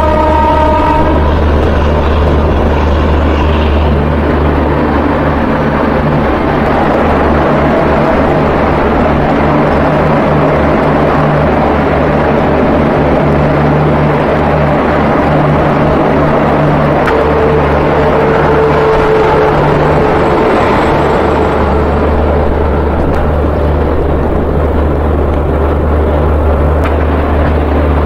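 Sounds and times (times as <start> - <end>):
passing train: 0.0 - 28.0
train wheels on rails: 0.0 - 28.0
wind buffeting microphone: 0.0 - 28.0
wind rushing: 0.9 - 28.0.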